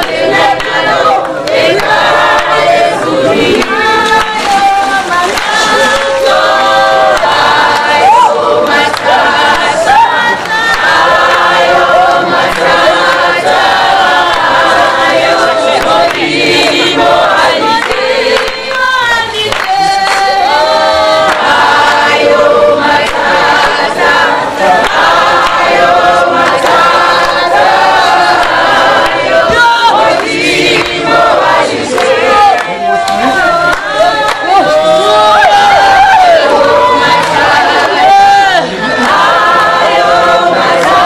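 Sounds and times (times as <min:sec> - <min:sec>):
choir singing: 0:00.0 - 0:41.0.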